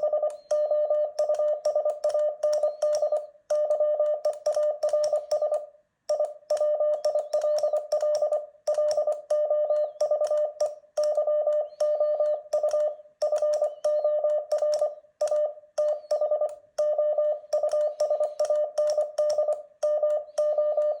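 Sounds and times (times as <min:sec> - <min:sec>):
morse code beeps: 0:00.0 - 0:21.0.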